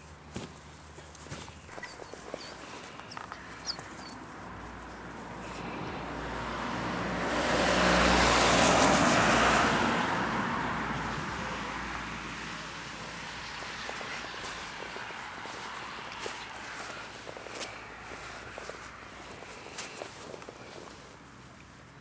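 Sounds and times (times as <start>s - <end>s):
car passing by: 2.8s - 21.4s.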